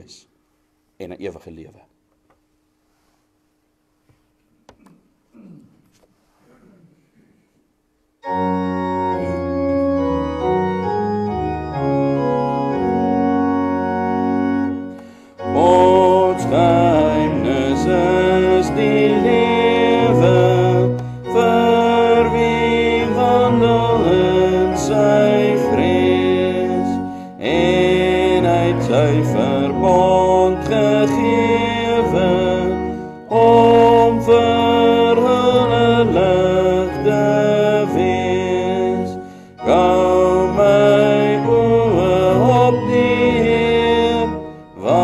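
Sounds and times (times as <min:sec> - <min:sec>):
congregation singing: 0:08.2 - 0:45.0
organ playing chords: 0:08.2 - 0:45.0.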